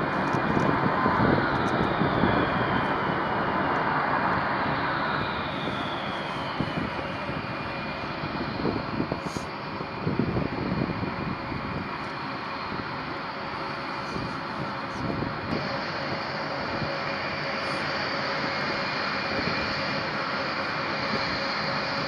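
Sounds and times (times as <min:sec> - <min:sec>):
jet engines whining and rumbling: 0:00.0 - 0:22.0.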